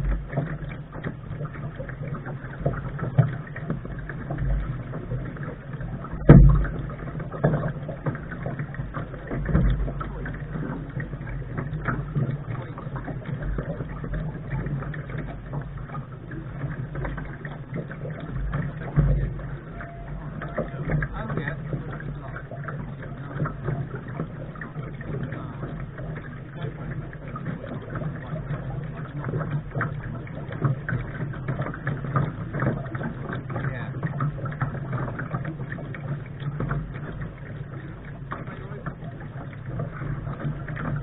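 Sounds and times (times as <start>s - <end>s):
knocks on boat: 0.0s - 41.0s
wind and water against hull: 0.0s - 41.0s.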